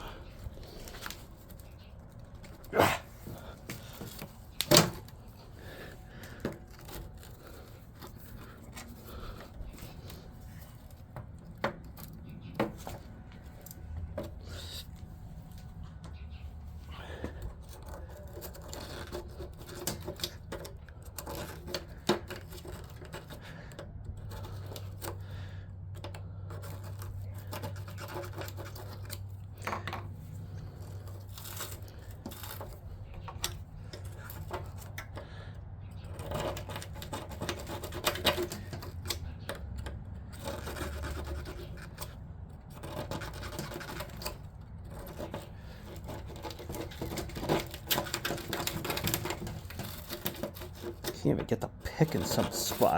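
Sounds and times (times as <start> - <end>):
low steady hum: 0.0 - 52.9
metal pick scraping rust: 0.0 - 52.9.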